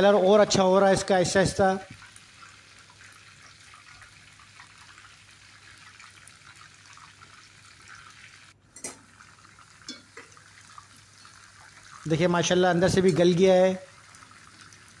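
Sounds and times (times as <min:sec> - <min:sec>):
oil sizzling and crackling: 0:01.6 - 0:15.0.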